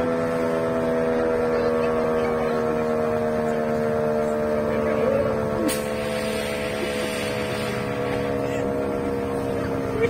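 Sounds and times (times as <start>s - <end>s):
fire truck horns chord: 0.0s - 10.0s.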